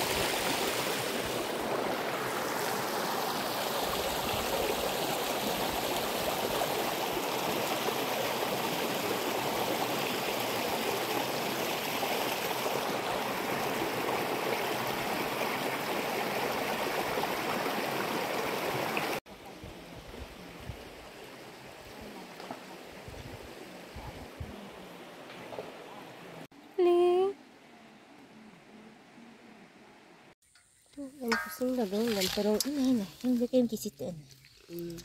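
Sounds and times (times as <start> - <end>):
stream running over stones: 0.0 - 26.5, 30.6 - 35.0.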